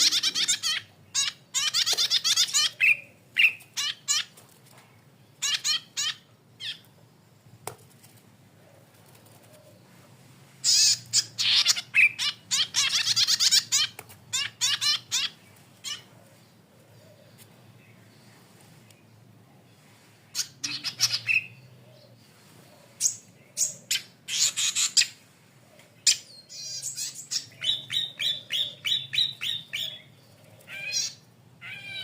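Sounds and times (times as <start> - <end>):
songbird chattering song: 0.0 - 7.1, 10.6 - 32.0.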